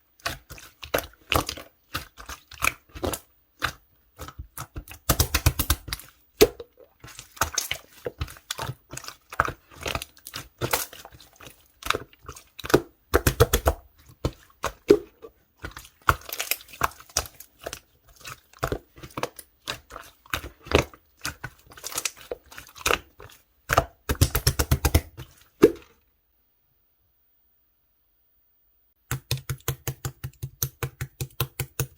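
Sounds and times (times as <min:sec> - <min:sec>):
slime squished by hand: 0:00.2 - 0:25.9.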